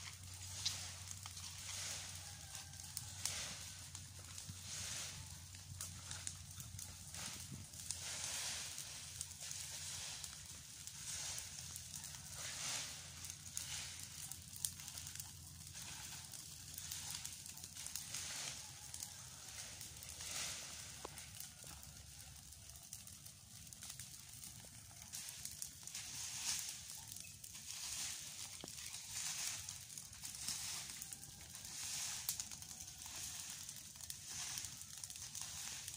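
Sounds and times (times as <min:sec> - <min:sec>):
fire crackling and popping: 0:00.0 - 0:35.9
rushing hiss of fire: 0:00.0 - 0:35.9.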